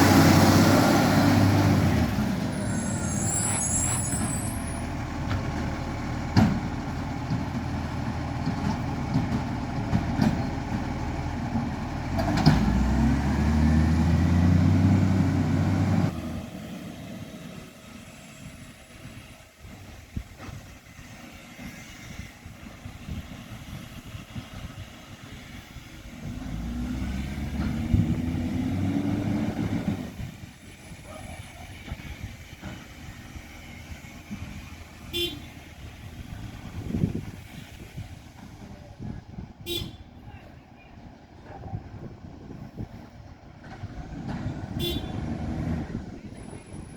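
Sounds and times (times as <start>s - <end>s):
diesel engine idling and revving: 0.0s - 46.9s.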